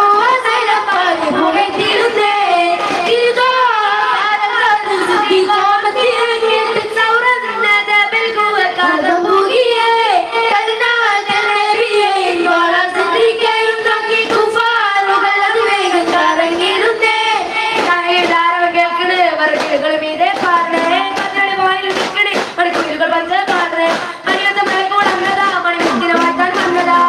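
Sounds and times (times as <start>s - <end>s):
children singing a melodic chant: 0.0s - 27.0s.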